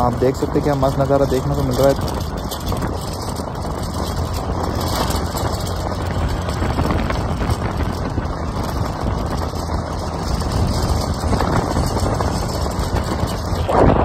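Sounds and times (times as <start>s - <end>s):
scooter engine running: 0.0s - 14.0s
wind rushing over microphone: 0.0s - 14.0s.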